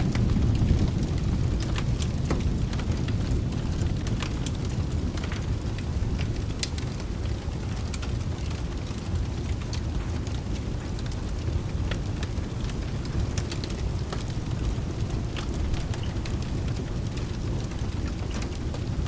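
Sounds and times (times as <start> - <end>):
rolling thunder: 0.0 - 8.5, 9.1 - 19.0
rain hissing: 0.0 - 19.0
wood fire crackling: 0.0 - 19.0.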